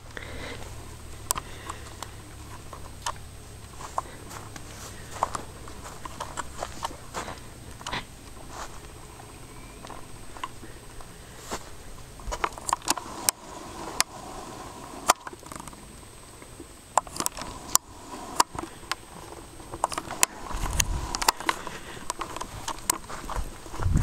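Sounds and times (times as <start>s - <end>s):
llama chewing: 0.0s - 24.0s.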